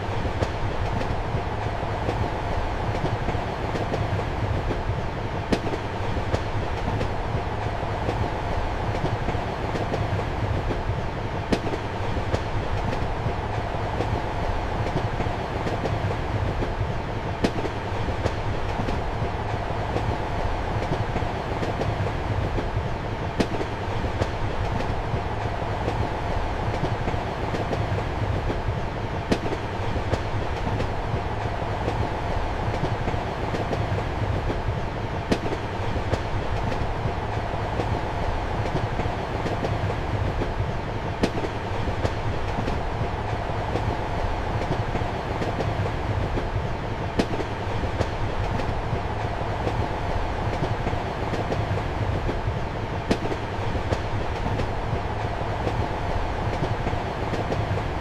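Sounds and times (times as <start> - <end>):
train carriage rumble and hum: 0.0 - 58.0.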